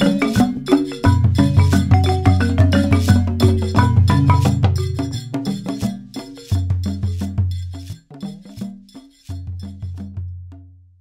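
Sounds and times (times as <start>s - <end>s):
wood-block-like percussion hits: 0.0s - 10.7s.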